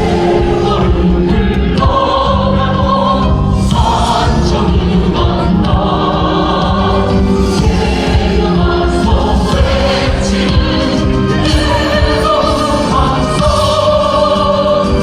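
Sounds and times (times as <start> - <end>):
amplified music: 0.0 - 15.0
many voices singing in chorus: 0.0 - 15.0.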